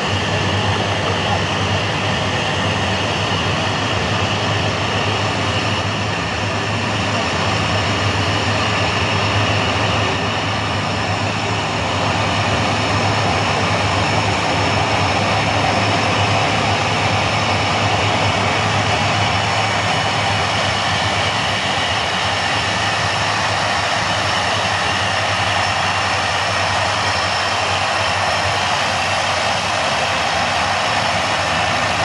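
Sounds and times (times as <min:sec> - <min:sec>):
propeller rush: 0:00.0 - 0:32.0
turboprop turbine whine: 0:00.0 - 0:32.0.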